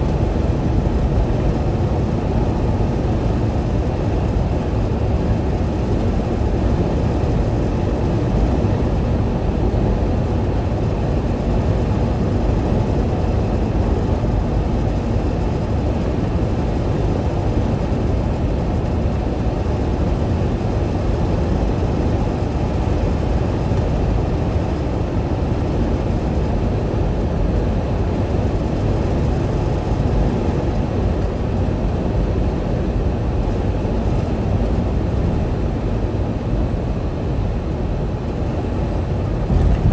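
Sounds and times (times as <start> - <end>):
truck engine rumble: 0.0 - 39.9.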